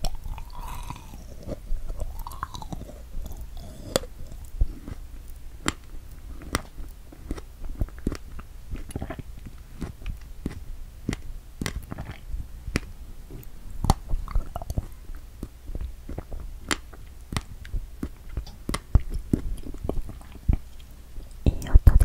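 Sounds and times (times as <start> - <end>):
close chewing clicks and smacks: 0.0 - 12.2, 12.8 - 21.4.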